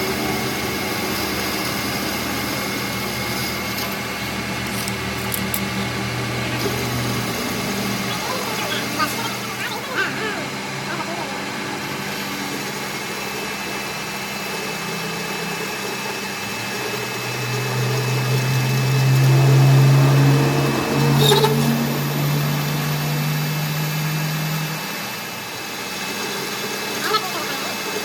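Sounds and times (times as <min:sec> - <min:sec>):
workshop machine humming: 0:00.0 - 0:28.0.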